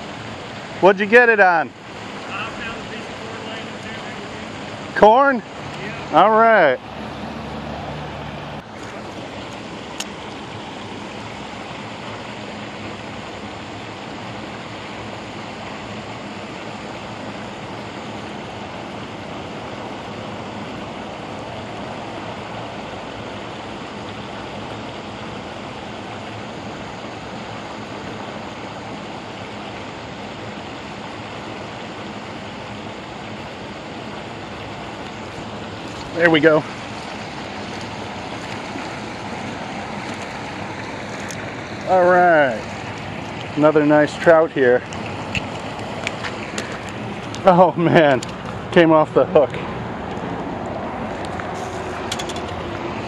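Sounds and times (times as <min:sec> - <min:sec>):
water rushing over dam: 0:00.0 - 0:53.0.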